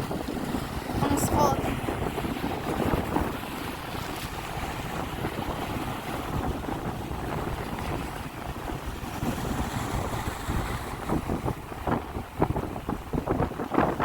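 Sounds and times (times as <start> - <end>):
sea waves washing on shore: 0.0 - 14.0
wind buffeting microphone: 0.0 - 14.0.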